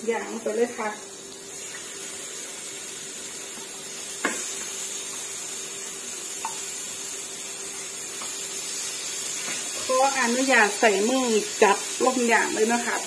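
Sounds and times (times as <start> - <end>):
chicken sizzling in grill pan: 0.0 - 13.0.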